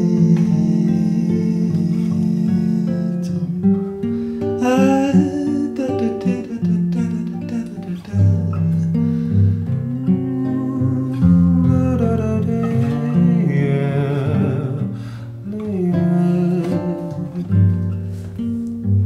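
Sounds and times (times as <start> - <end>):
wordless singing: 0.0 - 4.0, 4.6 - 9.0, 9.7 - 17.8
acoustic guitar playing: 0.0 - 19.0.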